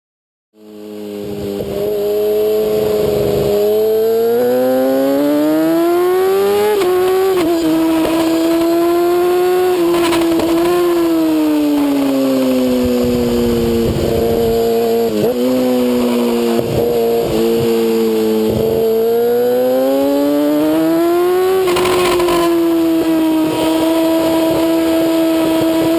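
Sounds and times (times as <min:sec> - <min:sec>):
motorcycle engine revving: 0:00.6 - 0:25.9.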